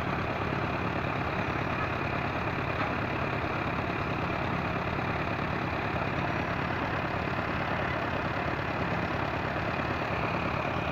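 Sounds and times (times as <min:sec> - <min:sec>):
drilling rig engine hum: 0:00.0 - 0:10.9.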